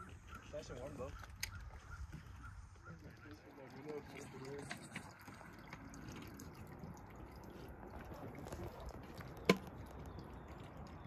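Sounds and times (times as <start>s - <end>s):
water lapping against a dock: 0.0s - 11.0s.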